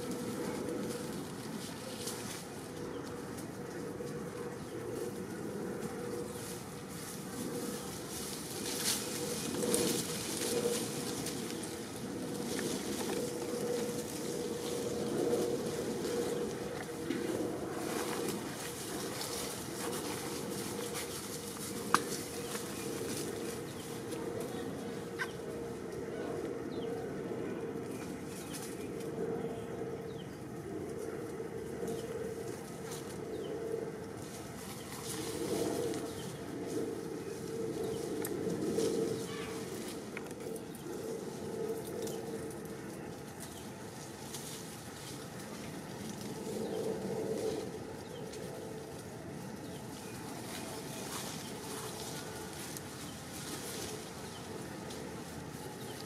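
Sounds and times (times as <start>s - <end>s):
outdoor background drone: 0.0s - 56.0s.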